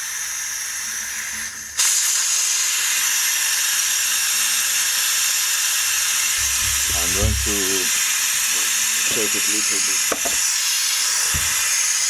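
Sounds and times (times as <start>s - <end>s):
compressed air hissing from valve: 0.0s - 12.0s.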